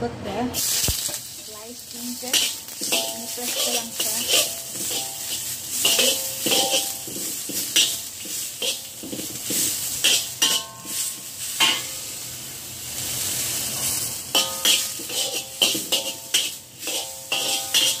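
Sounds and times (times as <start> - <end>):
ginger sizzling in hot oil: 0.5 - 18.0
metal spatula scraping a wok: 0.6 - 18.0.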